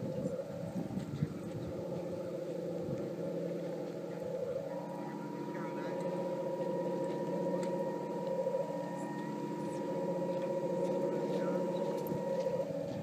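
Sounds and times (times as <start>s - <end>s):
model boat motor hum: 0.0s - 13.0s
thin high whine: 0.0s - 13.0s.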